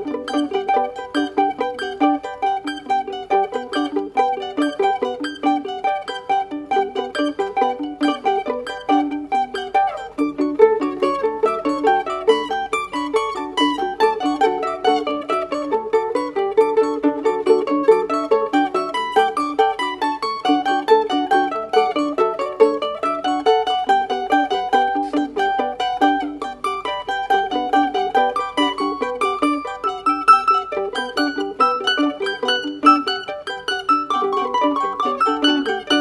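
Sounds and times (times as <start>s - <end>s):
mandolins plucking: 0.0s - 36.0s.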